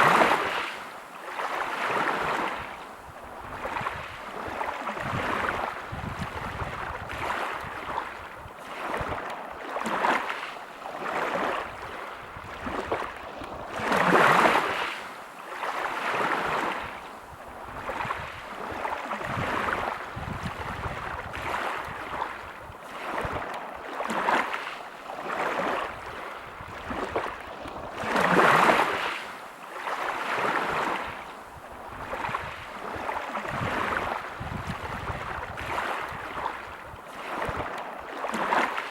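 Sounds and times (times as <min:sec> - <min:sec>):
waves breaking on pebble beach: 0:00.0 - 0:02.7, 0:03.5 - 0:17.0, 0:17.8 - 0:38.9.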